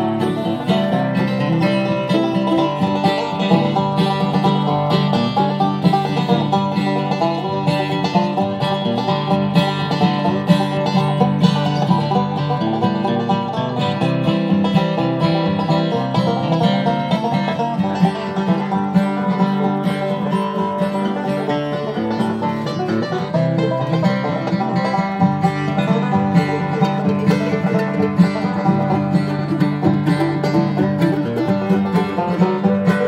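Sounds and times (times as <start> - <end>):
bluegrass string music: 0.0 - 33.0.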